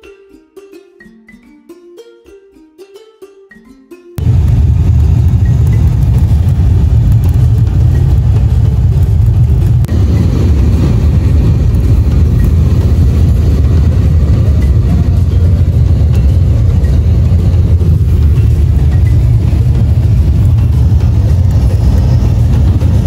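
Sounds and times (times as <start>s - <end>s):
car engine rumble: 4.2s - 23.0s
tyres on dirt road: 4.2s - 23.0s.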